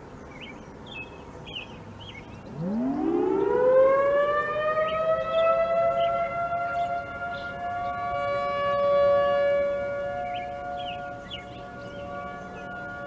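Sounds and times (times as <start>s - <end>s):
tornado warning siren winding up: 2.5s - 13.0s.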